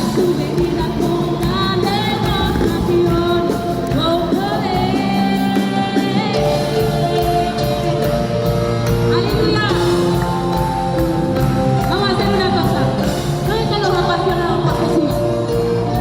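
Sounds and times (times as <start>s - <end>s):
worship band music: 0.0s - 16.0s.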